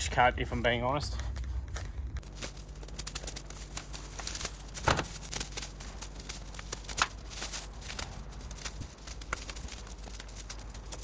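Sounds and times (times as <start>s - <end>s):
grass rustling and crackling: 0.0s - 11.0s
low steady hum: 0.0s - 11.0s.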